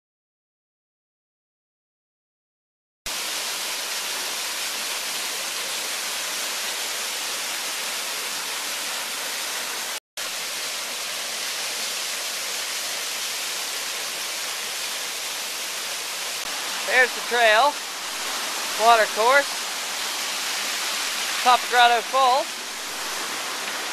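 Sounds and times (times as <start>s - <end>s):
small waterfall: 3.1s - 23.9s
stream running over rocks: 3.1s - 23.9s.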